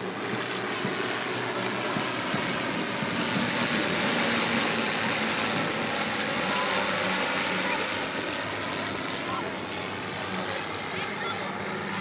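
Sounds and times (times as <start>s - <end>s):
propeller planes droning past: 0.0s - 12.0s.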